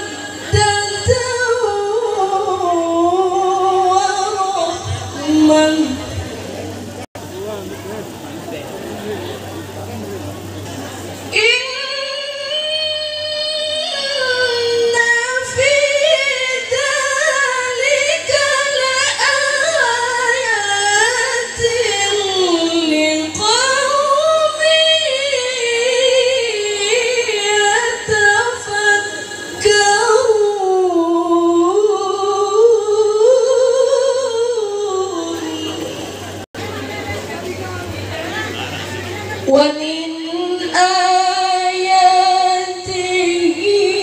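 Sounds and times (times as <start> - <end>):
woman reciting melodically: 0.0 - 6.9, 11.0 - 37.1, 39.0 - 44.0.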